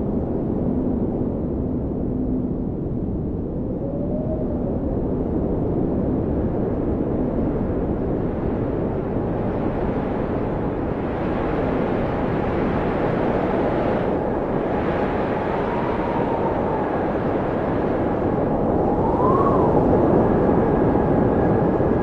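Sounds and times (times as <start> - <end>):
blizzard wind blowing: 0.0 - 22.0
faint howling wind whistle: 0.0 - 22.0.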